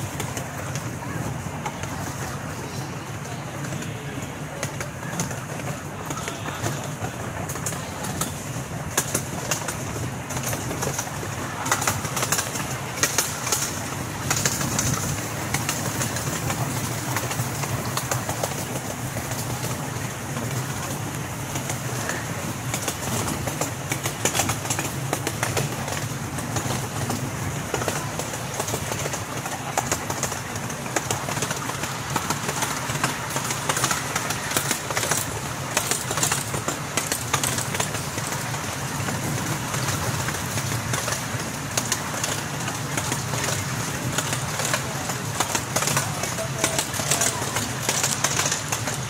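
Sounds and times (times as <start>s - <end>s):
train cars clicking and rattling: 0.0s - 49.0s.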